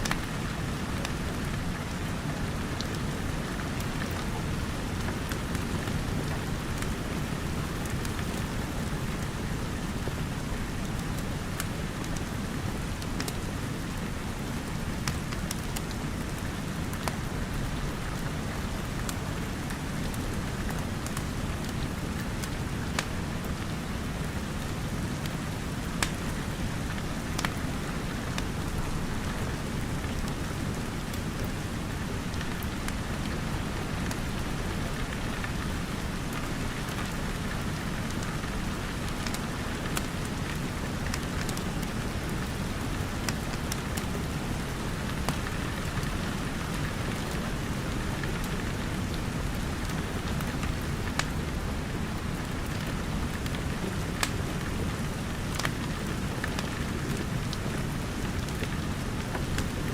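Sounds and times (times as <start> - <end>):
steady rain: 0.0 - 59.9
wood fire crackles: 0.0 - 59.9.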